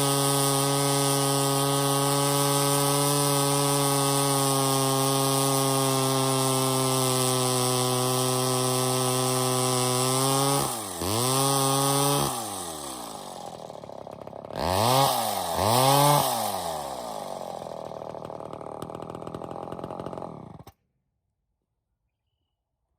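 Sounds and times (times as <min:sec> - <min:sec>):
two-stroke saw engine running: 0:00.0 - 0:20.8.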